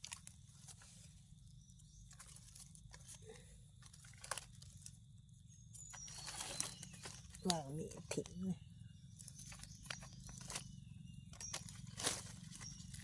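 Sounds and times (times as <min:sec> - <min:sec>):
faint crunches and rustles: 0:00.0 - 0:08.5, 0:09.1 - 0:13.0.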